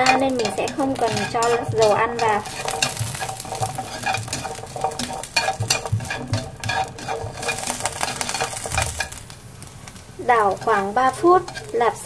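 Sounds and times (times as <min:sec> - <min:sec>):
light sizzle: 0:00.0 - 0:12.0
spatula scraping and tapping pan: 0:00.0 - 0:12.0.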